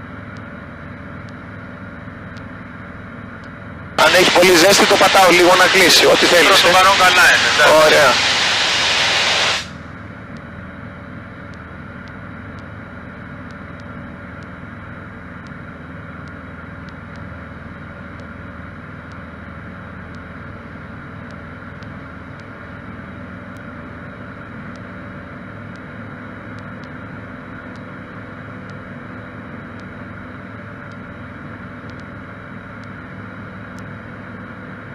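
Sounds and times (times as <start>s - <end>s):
light aircraft engine drone: 0.0s - 34.9s.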